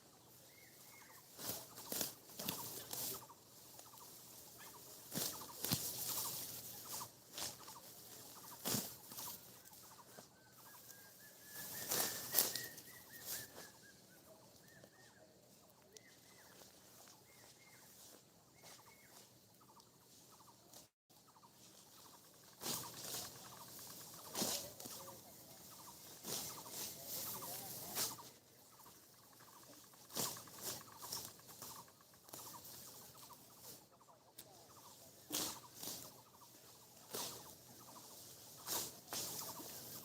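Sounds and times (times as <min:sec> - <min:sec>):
bird chirping: 0:00.0 - 0:40.0
dry stalks crunching and rustling: 0:00.0 - 0:40.0.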